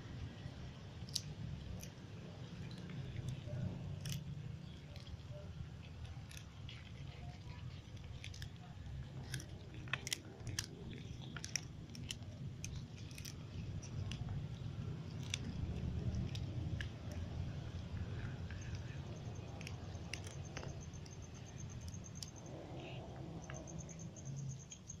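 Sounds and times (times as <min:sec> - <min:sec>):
low steady hum: 0:00.0 - 0:25.0
cats crunching crackers: 0:00.3 - 0:25.0.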